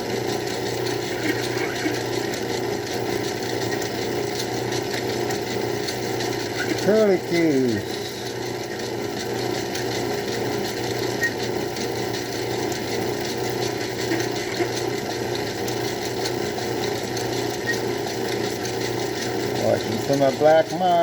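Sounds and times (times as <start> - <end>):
lathe whirring with clatter: 0.0 - 21.0.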